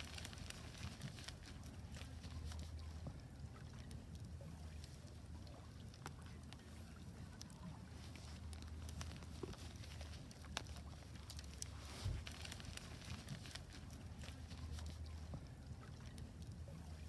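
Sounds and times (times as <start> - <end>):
wood fire crackling and popping: 0.0 - 16.6
low steady rumble: 0.0 - 17.0.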